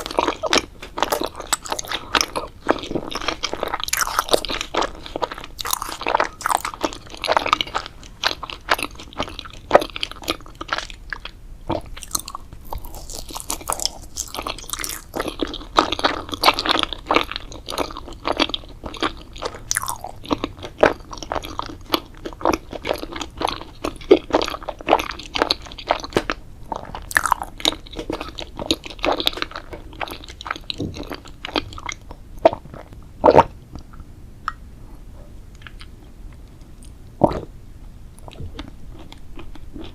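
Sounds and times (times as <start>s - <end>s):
crunching and chewing food: 0.0s - 34.6s, 35.5s - 37.5s, 38.2s - 39.9s.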